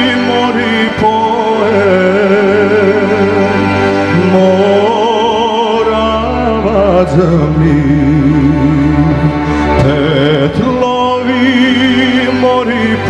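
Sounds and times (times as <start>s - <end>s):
folk band playing: 0.0s - 13.0s
man singing folk song: 0.0s - 13.0s.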